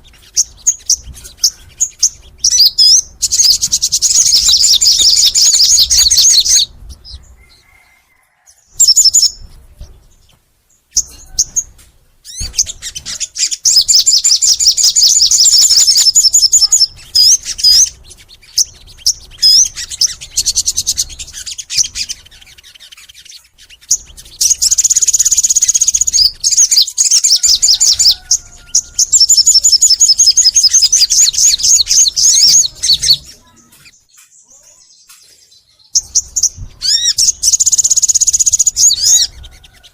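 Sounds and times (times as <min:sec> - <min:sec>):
songbird chattering trills: 0:00.0 - 0:39.9.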